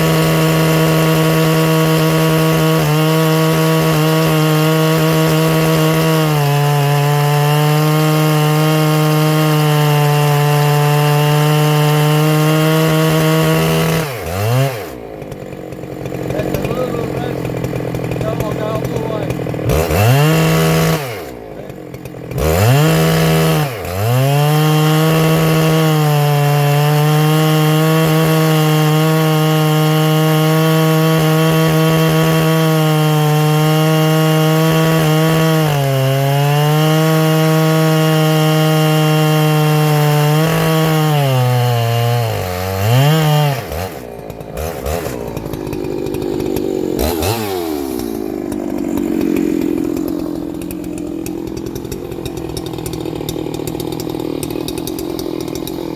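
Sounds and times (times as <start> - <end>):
chainsaw running at full throttle: 0.0 - 55.9.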